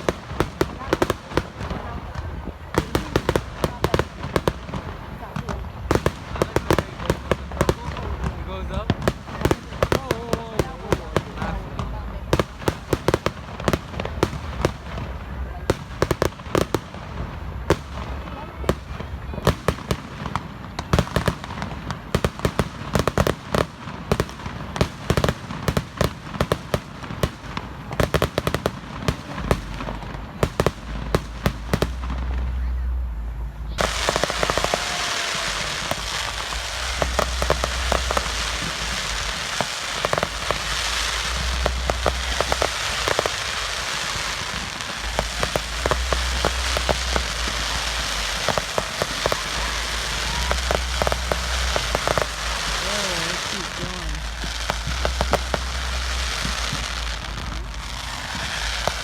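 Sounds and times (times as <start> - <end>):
fireworks bangs and crackling pops: 0.0 - 59.0
fireworks hissing: 0.0 - 59.0.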